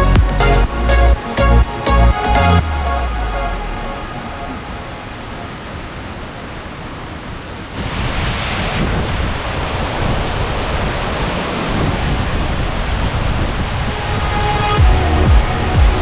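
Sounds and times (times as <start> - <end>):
waterfall roaring: 2.6 - 15.8.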